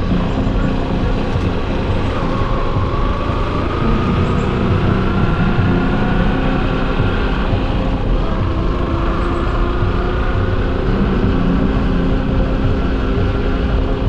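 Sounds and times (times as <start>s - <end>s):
faint rising whine: 0.0s - 14.0s
motorcycle riding on road: 0.0s - 14.0s
road and wind noise: 0.0s - 14.0s.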